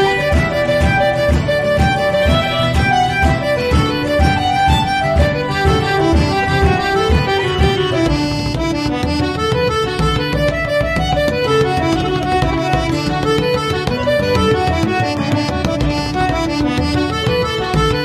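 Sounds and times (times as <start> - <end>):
accordion melody: 0.0 - 18.0
fiddle: 0.0 - 18.0
low accompaniment: 0.0 - 18.0.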